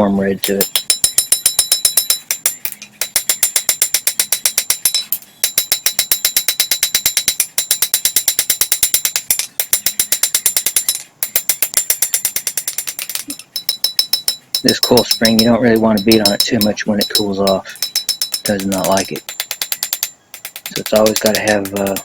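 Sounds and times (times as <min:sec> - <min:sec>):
hammer striking blade on anvil: 0:00.4 - 0:22.0.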